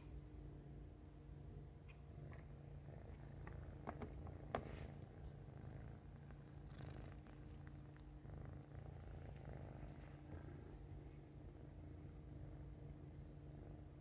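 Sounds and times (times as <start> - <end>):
kitten purring: 1.6 - 14.0.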